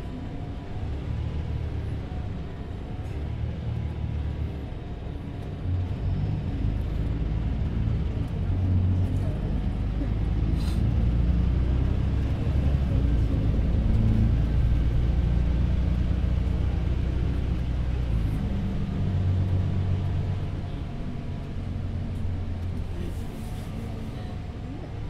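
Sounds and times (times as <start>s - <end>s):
bus diesel engine drone: 0.0s - 25.0s
road rumble: 0.0s - 25.0s.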